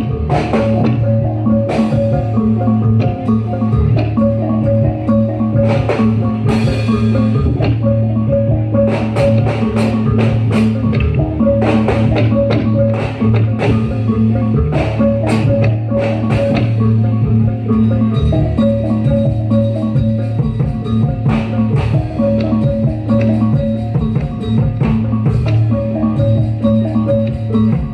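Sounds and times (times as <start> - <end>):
rapid drum strikes: 0.0 - 27.9.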